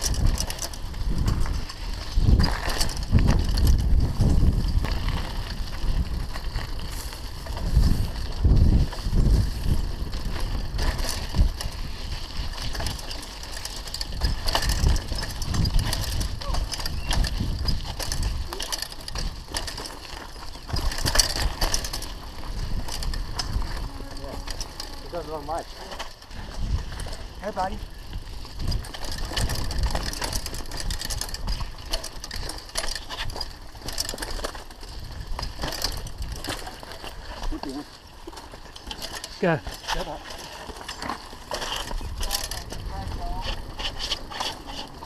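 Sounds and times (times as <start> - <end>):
wind rumble on microphone: 0.0 - 37.7, 40.2 - 45.0
bike knocks and rattles: 0.0 - 45.0
bike rolling over dirt trail: 0.0 - 45.0
tyres crunching on gravel: 0.0 - 45.0.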